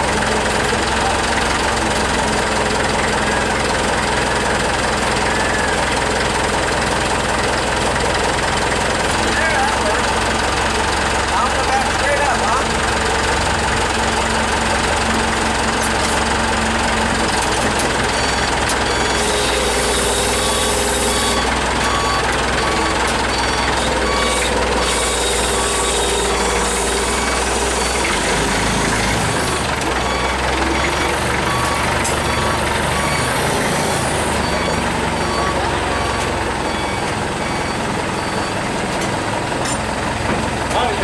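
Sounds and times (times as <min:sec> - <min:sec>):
forklift engine running: 0:00.0 - 0:41.0.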